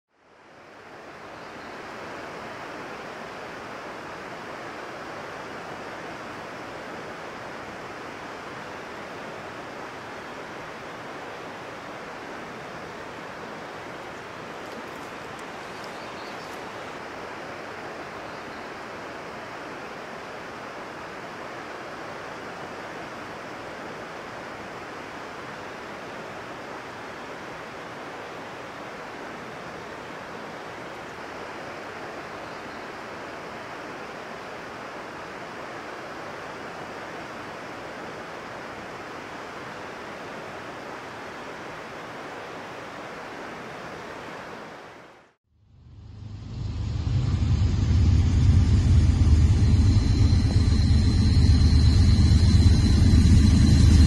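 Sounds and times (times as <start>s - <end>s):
fast-flowing water rushing: 0.4s - 45.4s.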